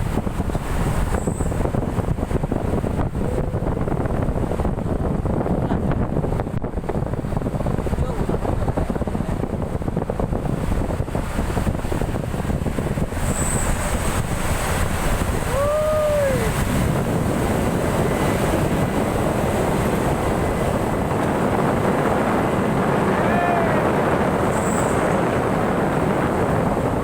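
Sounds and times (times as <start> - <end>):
truck driving: 0.0 - 27.0
wind buffeting microphone: 0.0 - 27.0.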